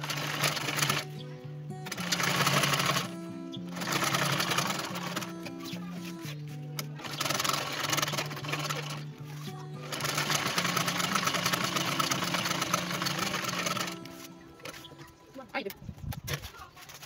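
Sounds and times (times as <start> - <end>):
sewing machine running: 0.0 - 1.2, 1.8 - 14.8
background music: 0.0 - 16.4.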